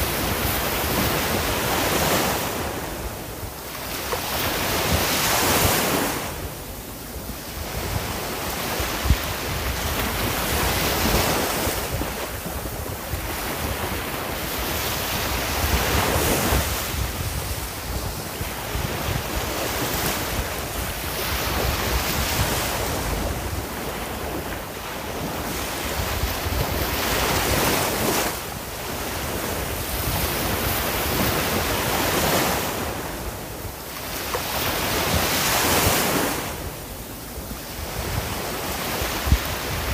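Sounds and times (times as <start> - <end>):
sea waves breaking on shore: 0.0 - 39.9
wind noise on microphone: 0.0 - 39.9.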